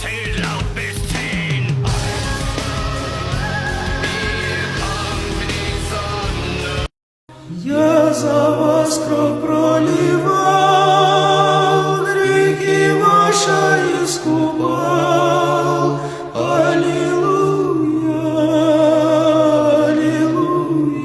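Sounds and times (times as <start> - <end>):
a cappella ensemble singing chords: 1.3 - 21.0.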